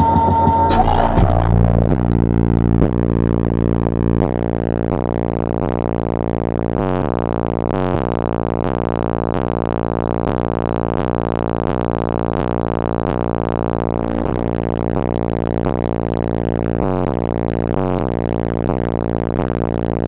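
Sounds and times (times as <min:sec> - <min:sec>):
bass-heavy music through subwoofers: 0:00.0 - 0:20.0.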